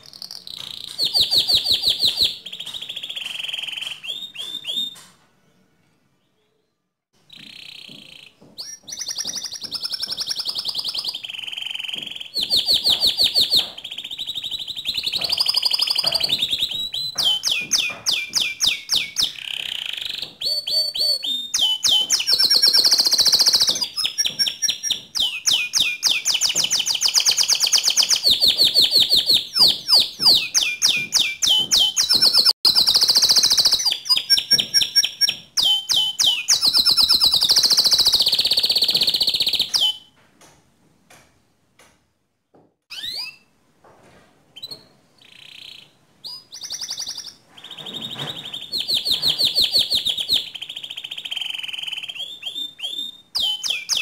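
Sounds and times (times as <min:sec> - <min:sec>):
canary singing trills: 0:00.0 - 0:05.2, 0:07.2 - 0:40.1, 0:42.9 - 0:43.5, 0:44.6 - 0:54.0.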